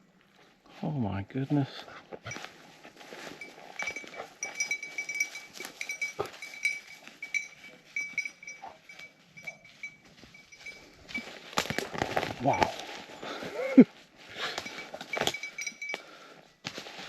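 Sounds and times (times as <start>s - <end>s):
rustling in brush: 0.8s - 15.9s
dog collar bell jingling: 2.2s - 16.3s.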